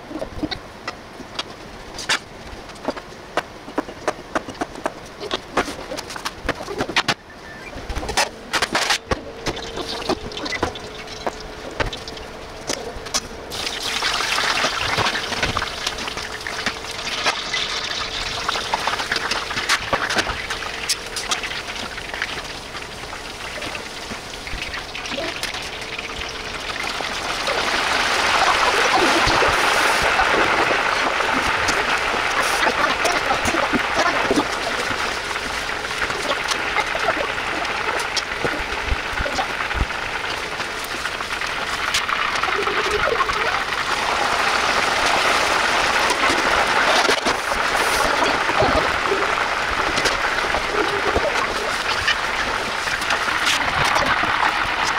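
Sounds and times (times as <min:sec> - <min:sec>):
oil sizzling and crackling: 0:00.0 - 0:54.9.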